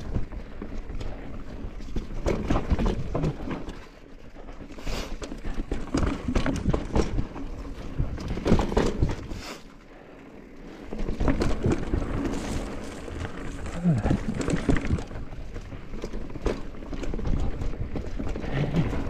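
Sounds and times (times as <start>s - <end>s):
mountain bike rattling on rough trail: 0.0s - 19.0s.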